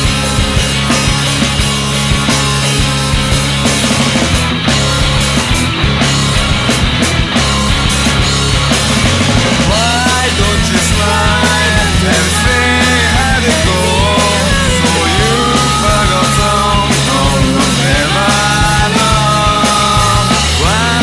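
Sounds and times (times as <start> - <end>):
shoegaze rock music: 0.0 - 21.0.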